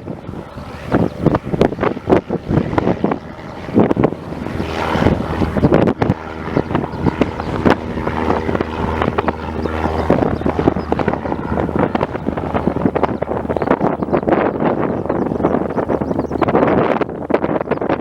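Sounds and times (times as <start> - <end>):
piston aircraft engine droning: 0.0 - 18.0.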